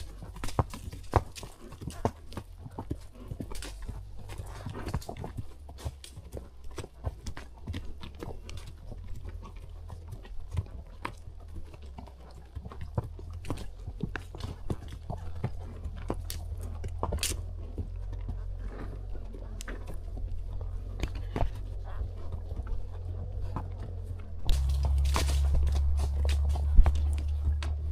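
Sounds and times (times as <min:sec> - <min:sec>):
hoof clicks and crunches: 0:00.0 - 0:27.9
steady low rumble: 0:02.2 - 0:27.9.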